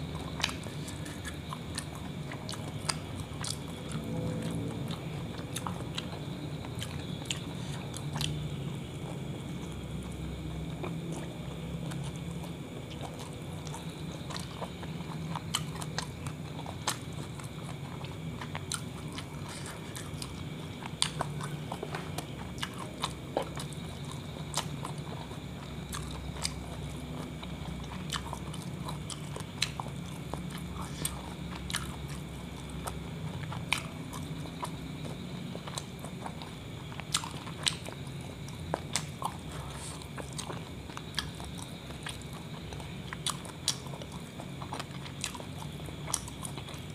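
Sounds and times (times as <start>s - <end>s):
biting and chewing food: 0.0s - 46.9s
steady low hum: 0.0s - 46.9s.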